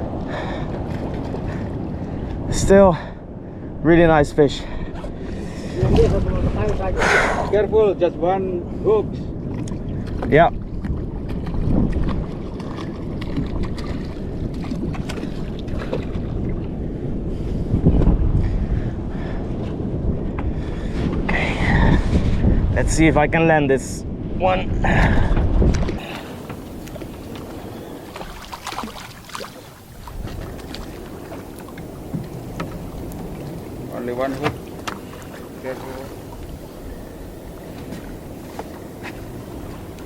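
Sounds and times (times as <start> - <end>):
water noise: 0.0 - 40.0
wind buffeting microphone: 0.0 - 40.0.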